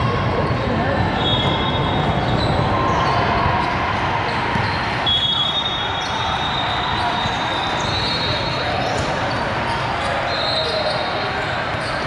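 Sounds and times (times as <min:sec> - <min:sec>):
crowd chatter: 0:00.0 - 0:12.0.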